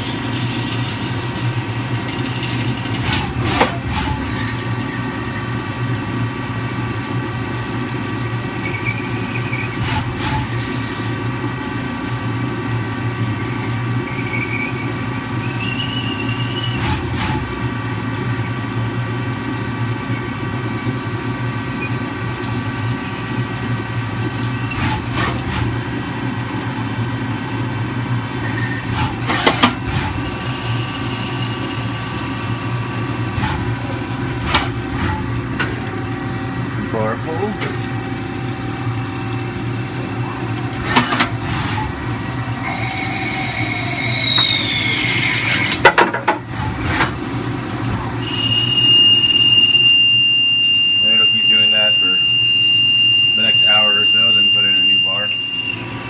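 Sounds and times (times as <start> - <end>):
lathe humming and whining: 0.0 - 9.9, 19.6 - 45.8, 47.0 - 56.0
coolant splashing: 0.0 - 49.7.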